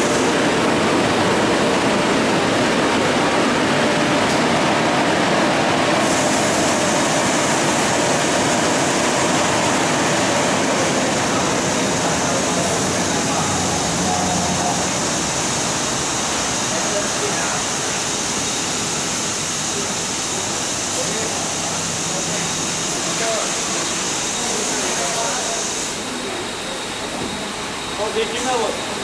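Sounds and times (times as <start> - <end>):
car wash machine rushing: 0.0 - 29.0.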